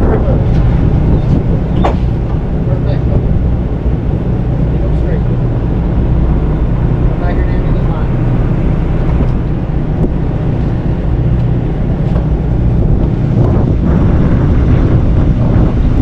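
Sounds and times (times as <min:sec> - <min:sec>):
boat engines idling: 0:00.0 - 0:16.0
wind buffeting microphone: 0:00.0 - 0:16.0.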